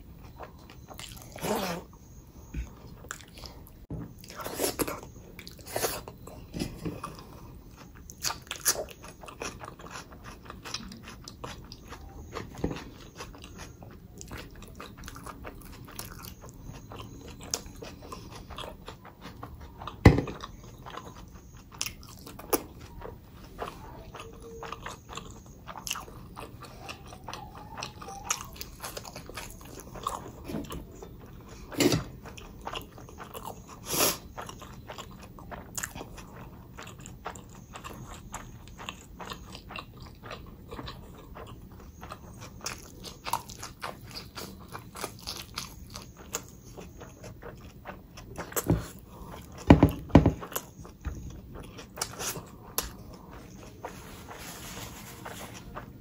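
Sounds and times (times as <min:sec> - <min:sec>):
person biting and chewing food: 0:00.3 - 0:54.4.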